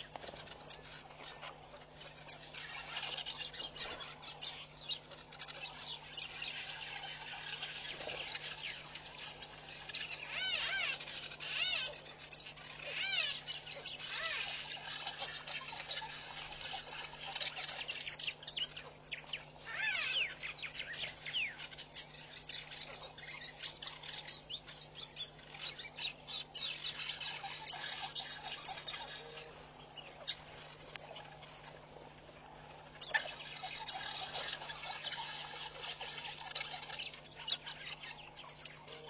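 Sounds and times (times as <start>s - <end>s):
faint low hum: 0.0s - 39.0s
small birds chirping and twittering: 0.0s - 39.0s.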